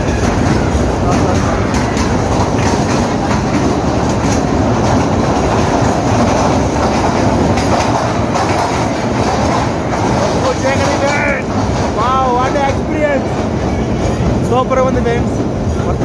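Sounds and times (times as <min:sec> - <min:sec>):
train rumbling in a tunnel: 0:00.0 - 0:16.0
wheel clatter on rails: 0:00.0 - 0:16.0.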